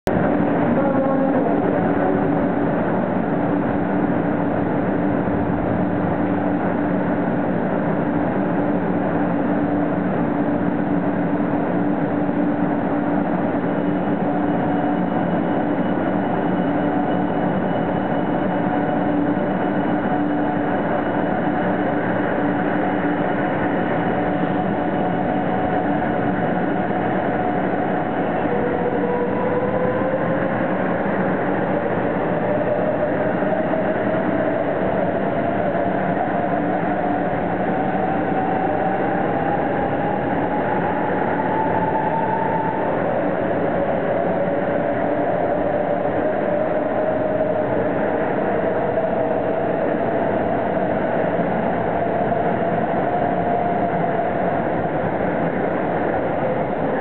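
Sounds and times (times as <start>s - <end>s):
train hum: 0.0s - 57.0s.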